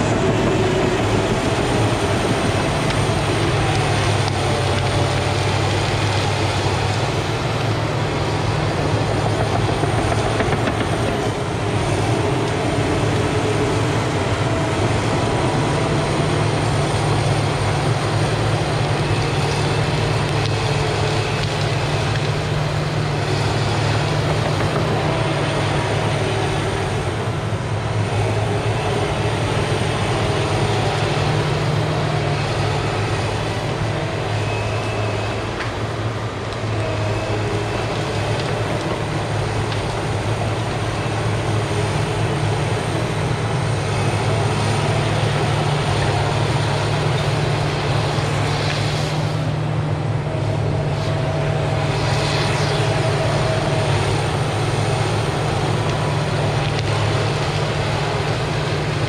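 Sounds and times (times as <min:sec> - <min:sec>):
diesel engine working: 0:00.0 - 0:59.0.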